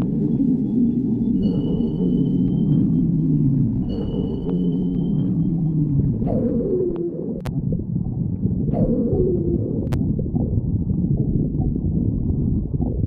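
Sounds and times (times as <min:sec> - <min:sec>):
stomach growling: 0:00.0 - 0:13.0.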